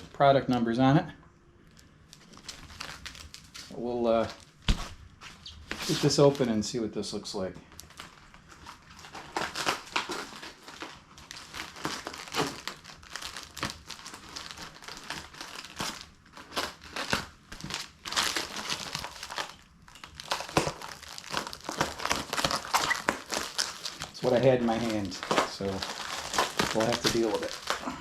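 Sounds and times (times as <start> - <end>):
packaging crinkling and rustling: 1.6 - 6.8, 7.4 - 28.0.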